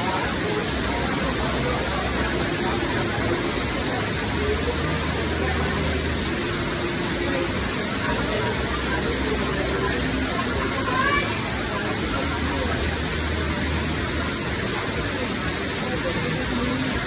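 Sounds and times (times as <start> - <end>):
heavy rain on street and awning: 0.0 - 17.0
running water: 0.0 - 17.0.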